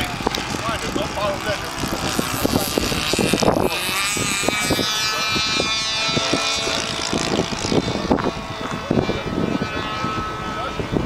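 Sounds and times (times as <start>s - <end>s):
model plane engine whine: 0.0s - 11.0s
wind buffeting microphone: 0.0s - 11.0s.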